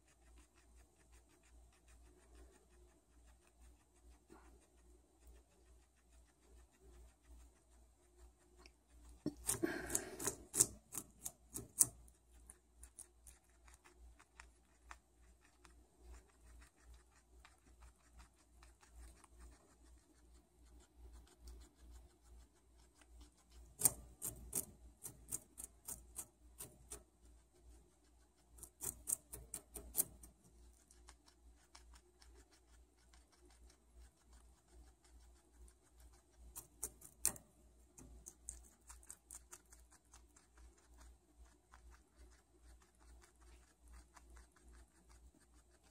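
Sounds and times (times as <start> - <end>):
guinea pig chewing carrot: 0.0 - 45.9.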